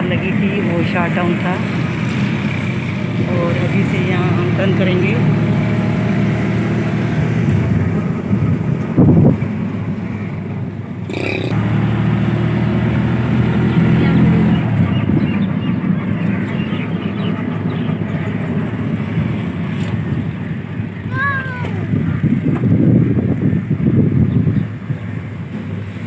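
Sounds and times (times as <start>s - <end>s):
auto-rickshaw engine humming: 0.0s - 26.0s.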